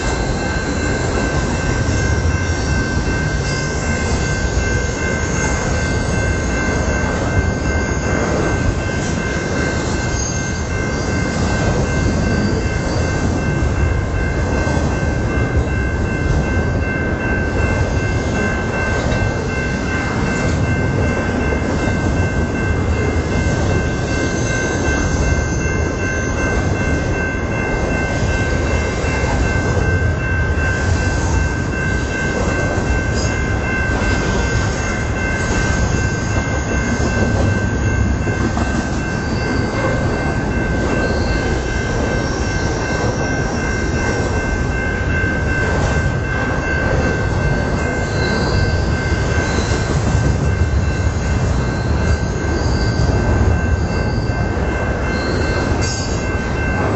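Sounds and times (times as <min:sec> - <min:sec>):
steel wheels rumbling on rail: 0:00.0 - 0:56.9.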